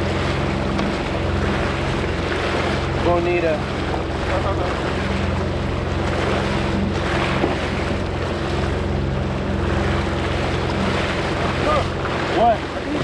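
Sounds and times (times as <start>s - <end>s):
jet ski engine humming: 0.0s - 13.0s
sea water rushing: 0.0s - 13.0s.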